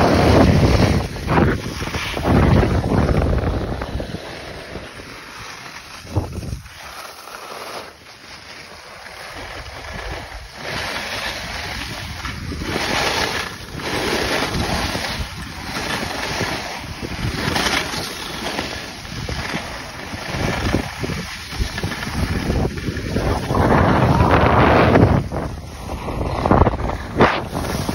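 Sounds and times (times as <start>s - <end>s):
wind rushing over microphone: 0.0s - 6.9s, 9.4s - 27.9s
skis scraping on snow: 0.0s - 27.9s.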